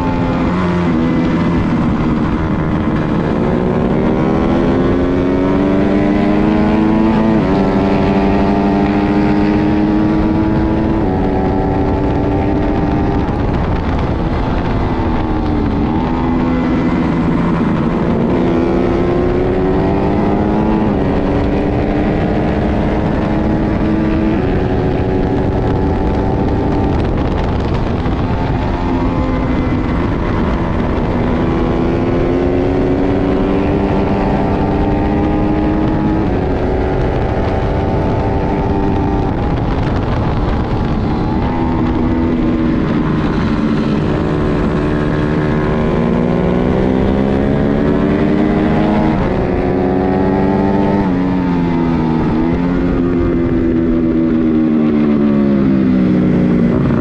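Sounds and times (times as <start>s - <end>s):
motorcycle engine at full throttle: 0.0s - 57.0s
wind on microphone: 0.0s - 57.0s.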